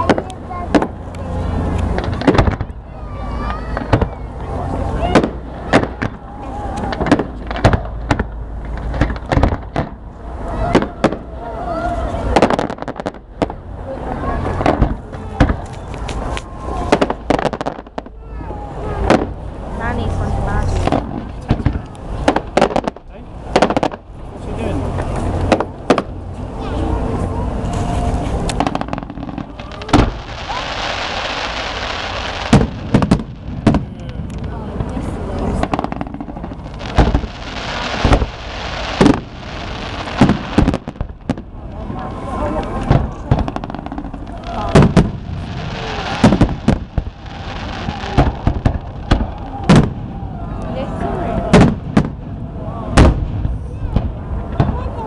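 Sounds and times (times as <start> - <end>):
fireworks bangs and pops: 0.0 - 11.4, 12.2 - 13.8, 14.4 - 18.4, 19.0 - 19.4, 20.6 - 26.6, 28.0 - 50.2, 51.3 - 55.0.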